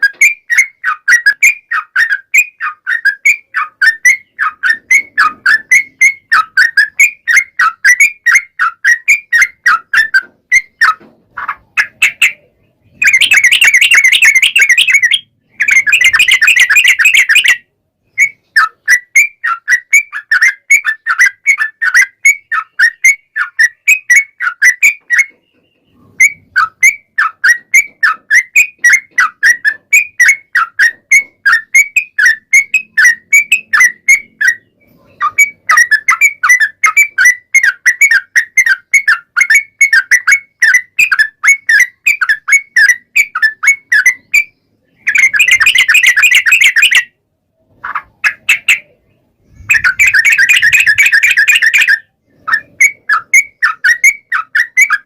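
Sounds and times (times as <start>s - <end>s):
bird chattering rattle: 0.0s - 17.6s, 18.2s - 47.1s, 47.8s - 55.0s.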